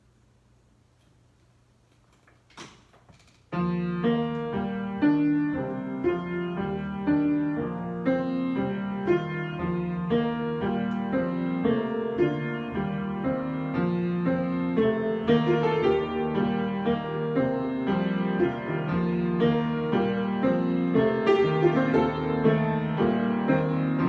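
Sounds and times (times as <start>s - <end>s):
piano improvisation with chords: 3.2s - 24.0s.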